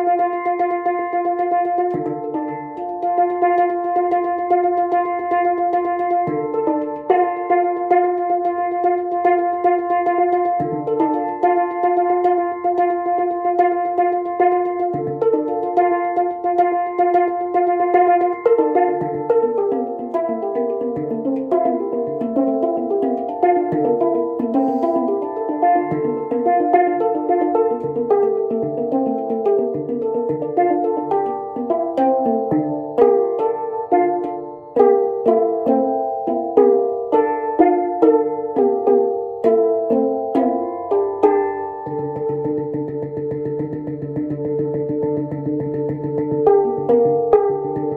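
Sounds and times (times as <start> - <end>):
handpan notes ringing: 0.0 - 47.9
low handpan note: 0.0 - 47.9.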